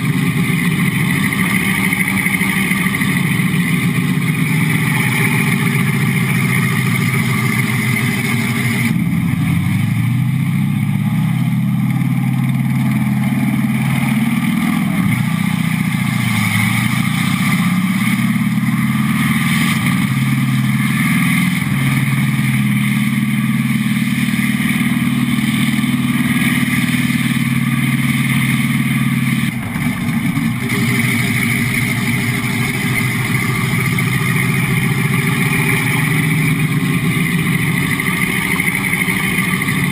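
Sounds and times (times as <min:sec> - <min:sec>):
simulated tank engine from speaker: 0:00.0 - 0:39.9.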